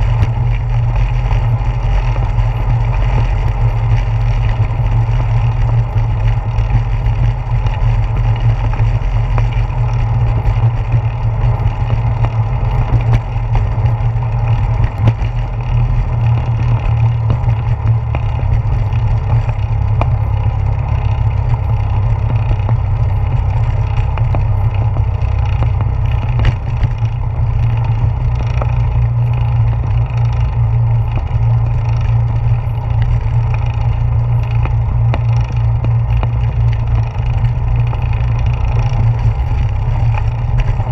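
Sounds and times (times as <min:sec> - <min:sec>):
faint ticks: 0:00.0 - 0:40.9
handlebar vibration: 0:00.0 - 0:40.9
tyres rumbling on wooden boardwalk: 0:00.0 - 0:40.9
wind: 0:00.0 - 0:40.9.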